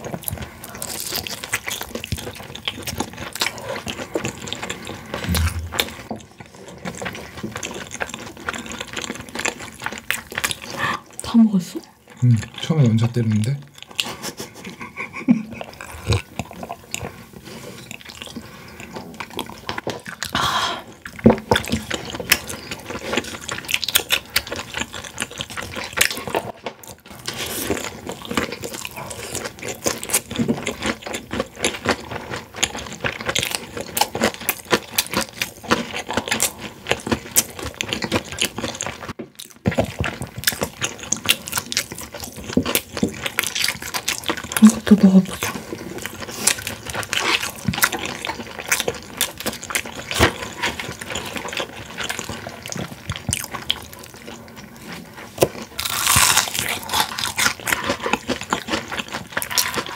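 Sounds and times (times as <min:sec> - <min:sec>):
fried chicken crunching: 0:00.0 - 0:10.9, 0:12.2 - 0:59.9.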